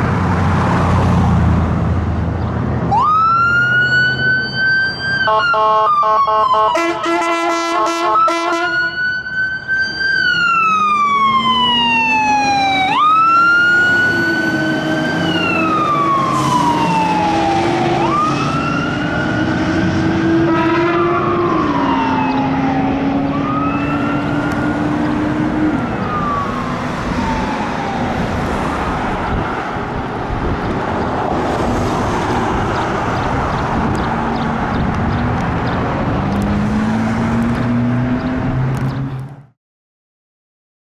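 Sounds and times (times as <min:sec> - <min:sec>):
traffic and engine noise: 0:00.0 - 0:39.6
fire truck siren wailing: 0:02.8 - 0:38.8.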